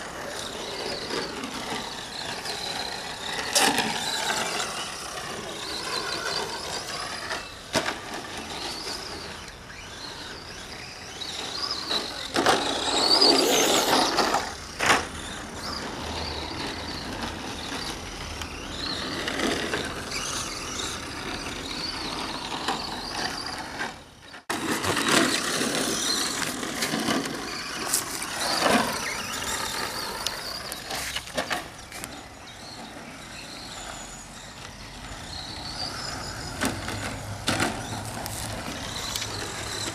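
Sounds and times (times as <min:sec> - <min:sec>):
rc truck motor whine: 0:00.0 - 0:39.9
tyre noise on track: 0:00.0 - 0:39.9.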